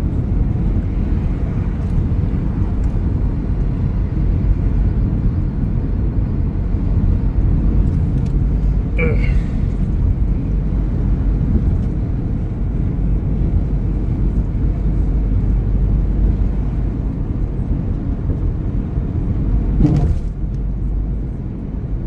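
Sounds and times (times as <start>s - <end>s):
car tyres and engine rumbling: 0.0s - 22.0s.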